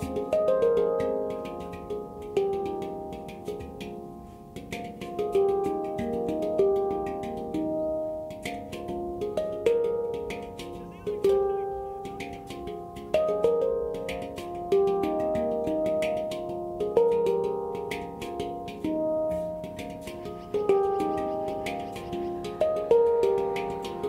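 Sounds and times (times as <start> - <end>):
handpan melody: 0.0 - 24.0.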